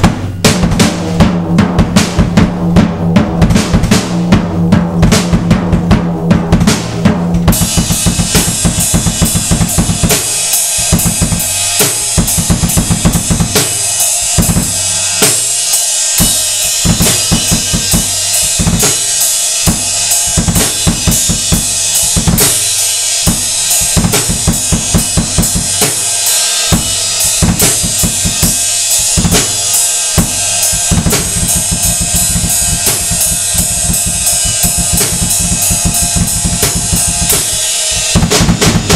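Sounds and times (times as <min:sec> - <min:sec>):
drum kit playing: 0:00.0 - 0:38.9
ringing bass drum strokes: 0:00.0 - 0:38.9
cymbal wash: 0:07.6 - 0:38.9.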